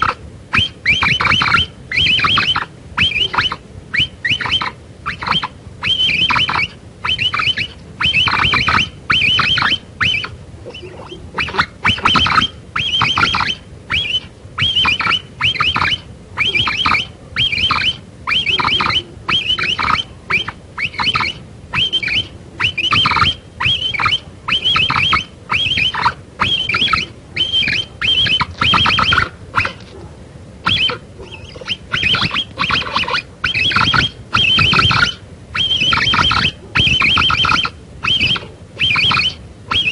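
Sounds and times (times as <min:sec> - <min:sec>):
capybara clicking chatter: 0:00.0 - 0:29.9, 0:30.6 - 0:39.9.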